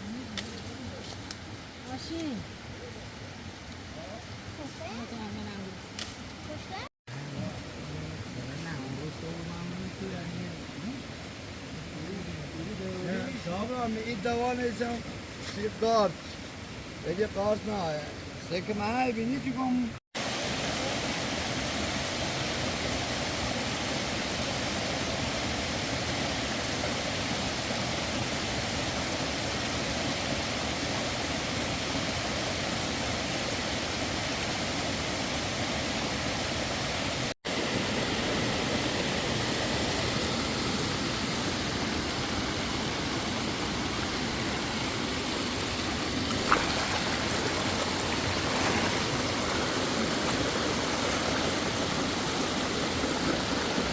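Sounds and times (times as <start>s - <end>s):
flowing water: 0.0s - 53.9s.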